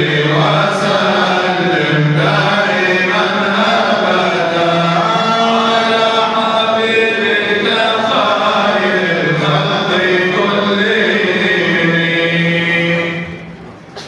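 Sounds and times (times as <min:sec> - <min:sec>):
man chanting devotional song: 0:00.0 - 0:13.5.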